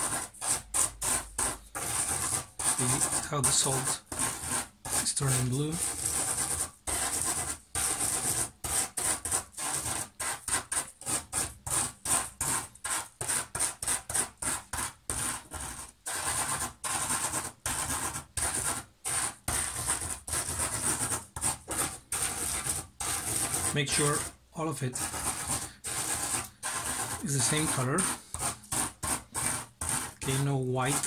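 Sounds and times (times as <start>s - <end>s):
chalk scratching through salt: 0.0s - 31.0s.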